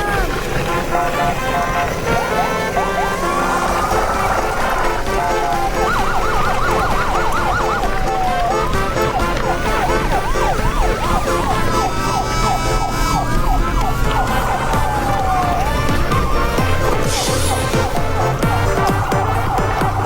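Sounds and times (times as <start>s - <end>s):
background music: 0.0s - 20.0s
emergency vehicle siren: 0.0s - 20.0s.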